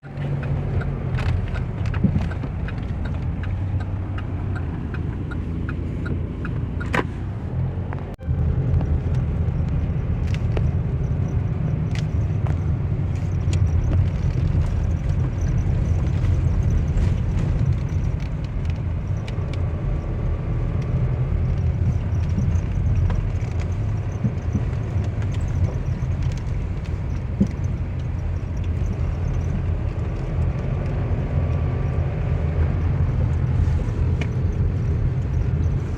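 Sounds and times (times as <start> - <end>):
vehicle engine rumbling: 0.0 - 35.9.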